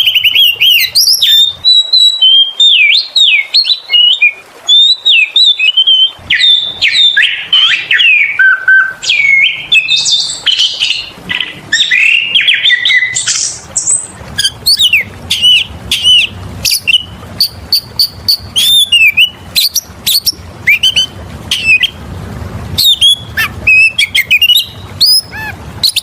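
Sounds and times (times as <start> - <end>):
songbird whistling and chirping: 0.0 - 22.0, 22.8 - 26.0.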